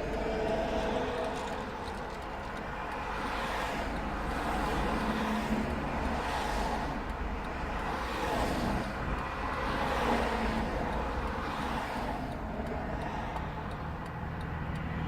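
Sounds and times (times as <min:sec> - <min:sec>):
road traffic rumble: 0:00.0 - 0:15.0
vehicles passing: 0:00.0 - 0:15.0.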